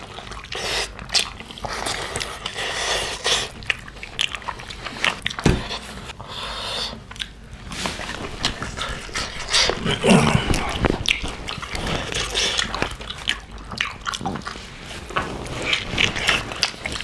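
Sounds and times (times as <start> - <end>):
wet chewing and lip-smacking: 0.0 - 6.3, 7.0 - 17.0.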